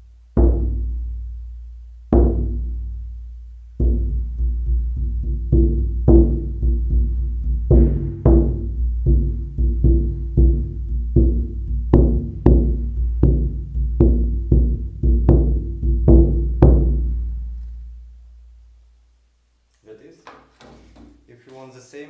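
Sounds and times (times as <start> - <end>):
drum booming: 0.3 - 18.2.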